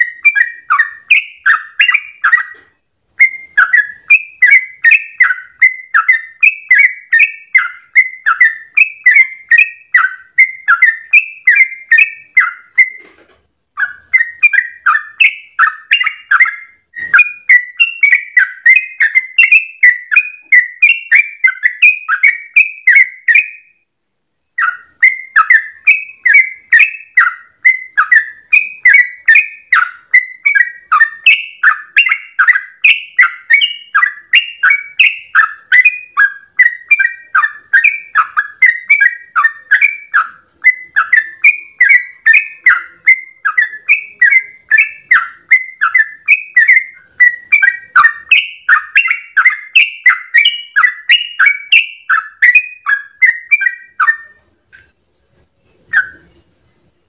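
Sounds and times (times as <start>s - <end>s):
bird singing bubbly notes: 0.0s - 13.0s, 13.8s - 23.9s, 24.5s - 54.6s, 55.8s - 56.5s.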